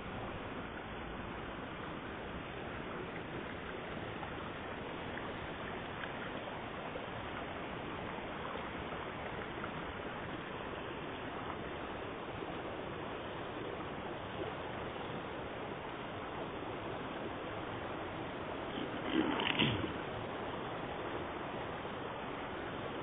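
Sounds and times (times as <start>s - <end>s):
water rushing into pond: 0.0s - 23.0s.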